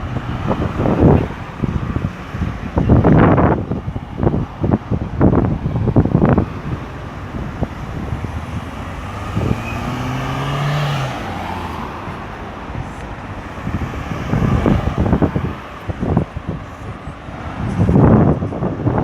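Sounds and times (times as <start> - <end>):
road traffic: 0.0 - 19.0
vehicle passing: 0.0 - 19.0
wind buffeting microphone: 0.0 - 19.0.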